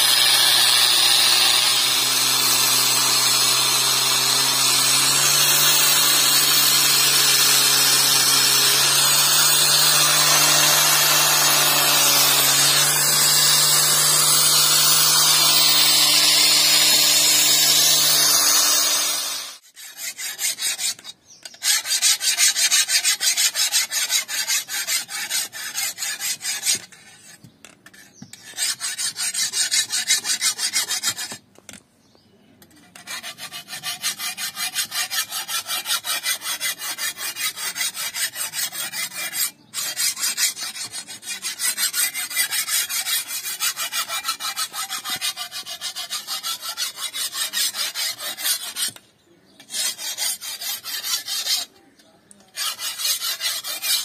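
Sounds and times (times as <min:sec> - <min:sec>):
file scraping steel blade: 0:00.0 - 0:31.4, 0:32.6 - 0:49.0, 0:49.6 - 0:54.0.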